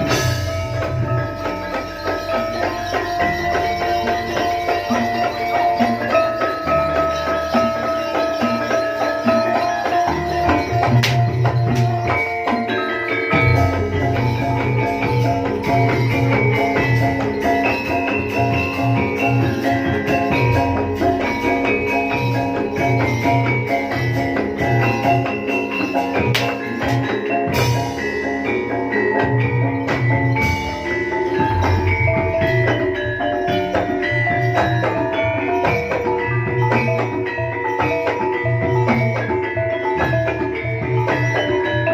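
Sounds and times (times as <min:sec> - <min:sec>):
bronze mallet instruments ringing: 0:00.0 - 0:41.9
gamelan music: 0:00.0 - 0:41.9
gongs ringing: 0:00.0 - 0:41.9.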